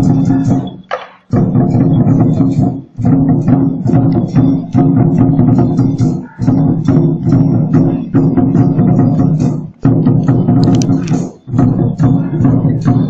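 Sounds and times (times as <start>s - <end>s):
fast drum troupe percussion: 0.0s - 13.0s.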